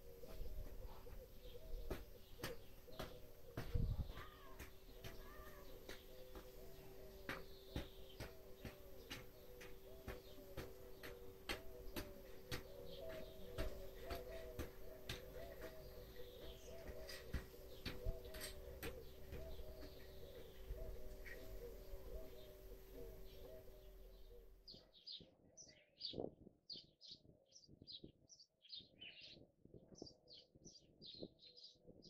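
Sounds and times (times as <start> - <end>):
birds calling with short low notes: 0.0 - 32.0.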